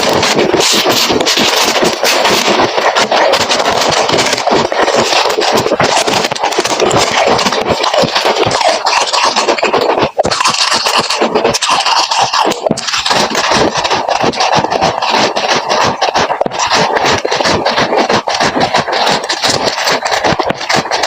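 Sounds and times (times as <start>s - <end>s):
frost being chewed: 0.0s - 21.0s.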